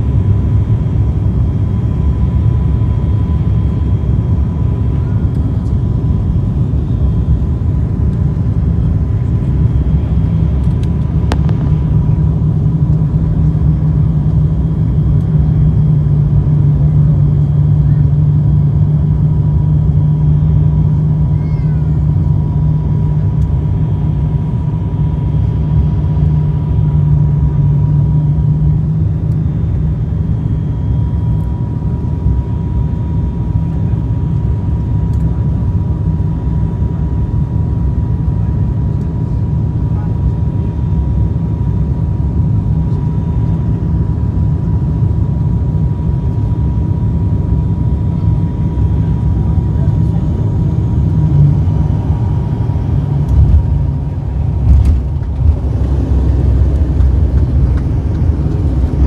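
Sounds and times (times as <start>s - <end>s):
airliner cabin engine drone: 0.0s - 59.0s.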